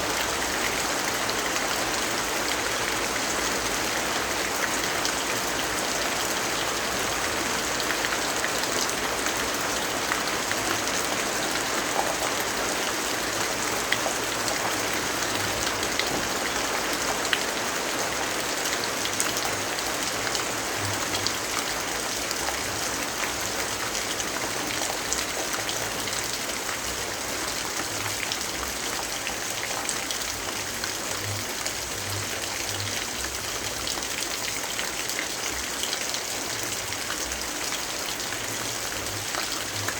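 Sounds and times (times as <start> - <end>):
steady rain hiss: 0.0 - 34.2.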